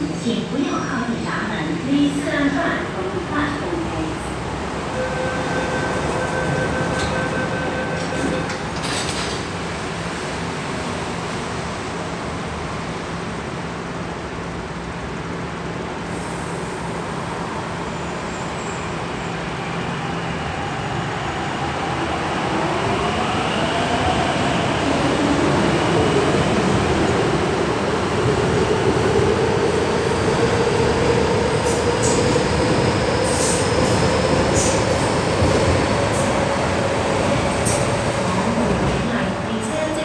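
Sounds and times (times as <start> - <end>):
train hum and rumble: 0.0 - 40.0.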